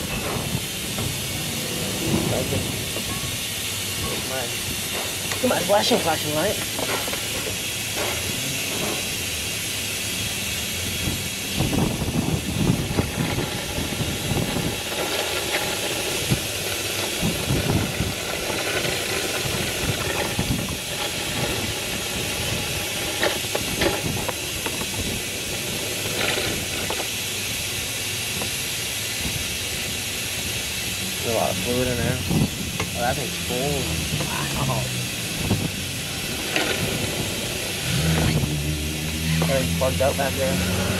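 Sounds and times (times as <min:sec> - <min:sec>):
suction hose hissing: 0:00.0 - 0:40.9.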